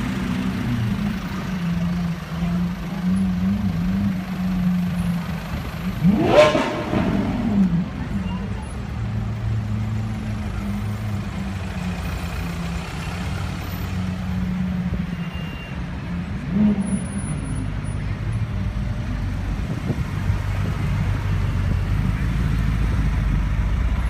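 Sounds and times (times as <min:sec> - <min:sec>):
slow traffic engines humming: 0:00.0 - 0:24.0.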